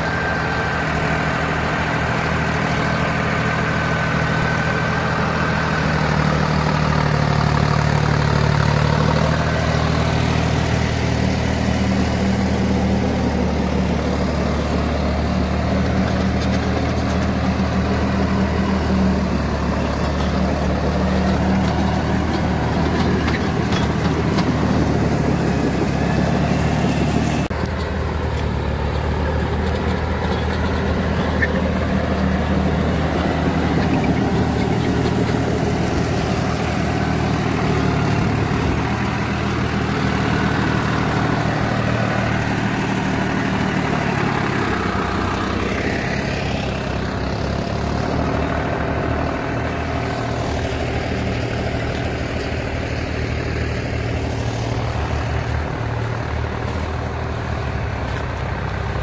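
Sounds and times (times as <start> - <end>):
rotary tiller churning soil: 0.0 - 59.0
tractor diesel engine under load: 0.0 - 59.0.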